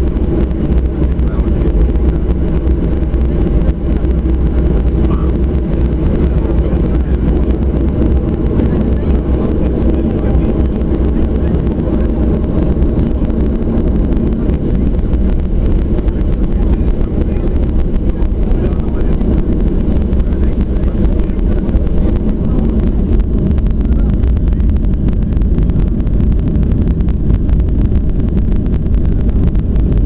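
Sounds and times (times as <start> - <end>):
faint high whine: 0.0 - 30.0
jet engines roaring: 0.0 - 30.0.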